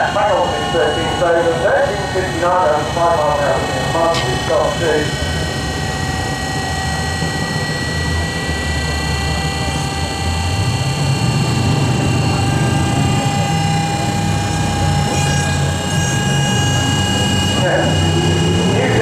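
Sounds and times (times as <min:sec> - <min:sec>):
drag car engine rumbling: 0:00.0 - 0:19.0
high whine: 0:00.0 - 0:19.0.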